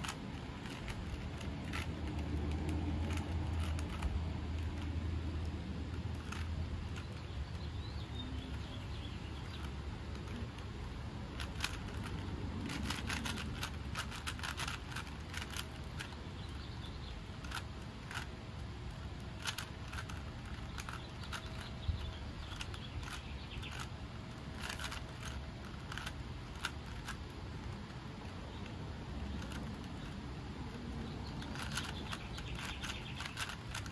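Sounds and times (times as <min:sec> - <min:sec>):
puzzle cube clicking as twisted: 0:00.0 - 0:07.6, 0:08.2 - 0:33.9
steady low rumble: 0:00.0 - 0:33.9.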